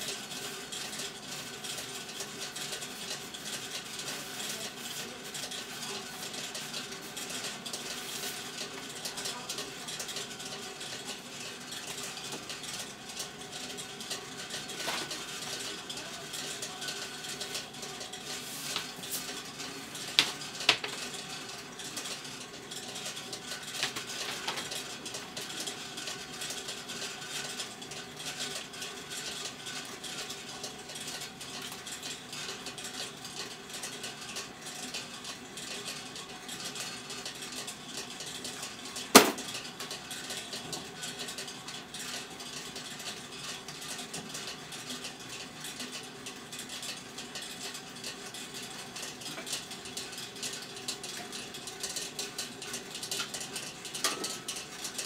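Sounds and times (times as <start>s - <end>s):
machine motor with light rattle: 0.0s - 55.0s.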